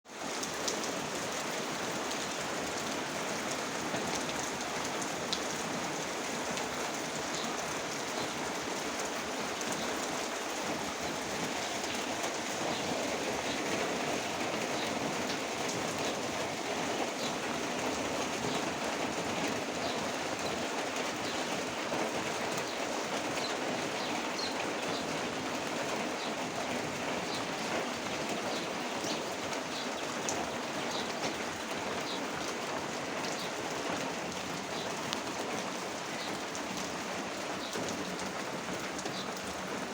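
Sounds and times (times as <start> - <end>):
heavy rain hissing: 0.1 - 39.9
raindrops ticking: 0.2 - 39.9.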